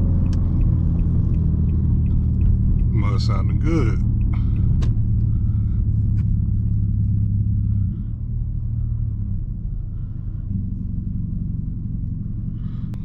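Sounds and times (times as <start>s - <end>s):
car exhaust low rumble: 0.0s - 13.0s.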